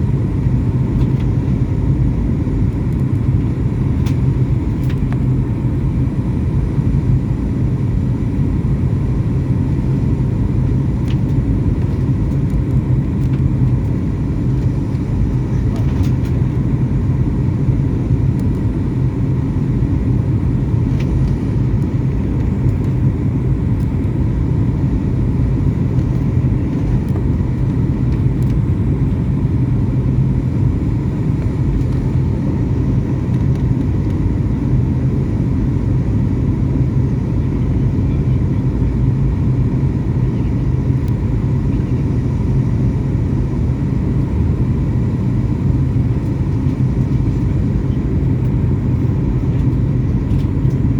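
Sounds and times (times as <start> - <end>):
airliner engines droning in cabin: 0.0 - 50.9.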